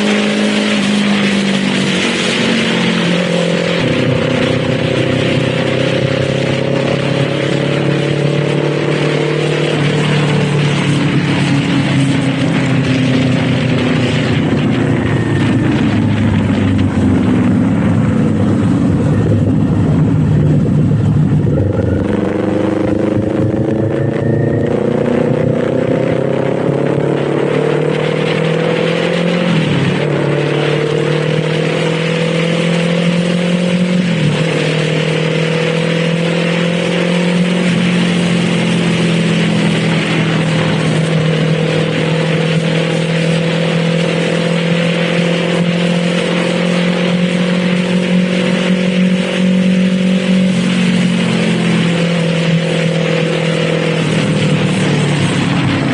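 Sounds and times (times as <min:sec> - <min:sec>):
motorcycle engine pulling away: 0:00.0 - 0:55.9
wind and road noise: 0:00.0 - 0:55.9.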